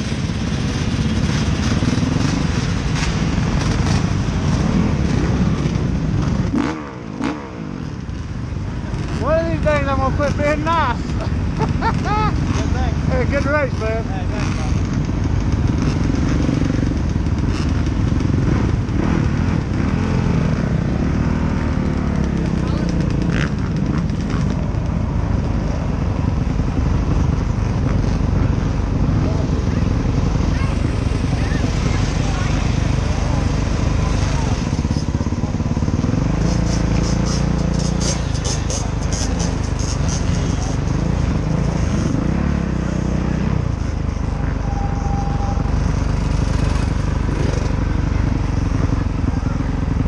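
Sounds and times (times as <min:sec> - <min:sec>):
dirt bike engine at low revs: 0:00.0 - 0:50.0.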